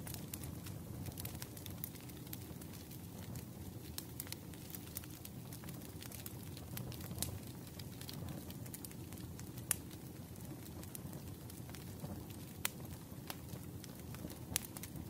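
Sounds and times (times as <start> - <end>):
fire rumbling: 0.0 - 15.0
wood fire popping: 0.0 - 15.0.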